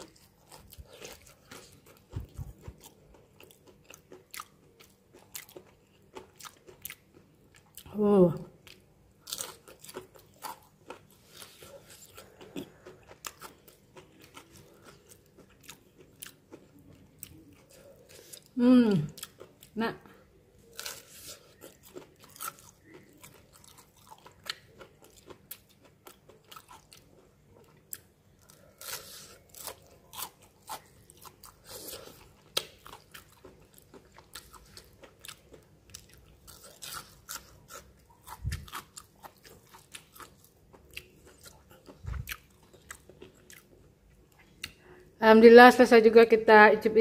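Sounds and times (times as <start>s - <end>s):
person crunching and chewing food: 0.0s - 45.0s.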